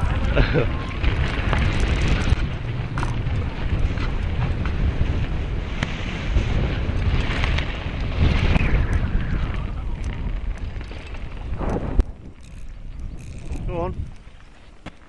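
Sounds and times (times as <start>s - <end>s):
bike knocking and rattling: 0.0s - 15.0s
tyres rumbling on dirt trail: 0.0s - 15.0s
wind buffeting microphone: 0.0s - 15.0s.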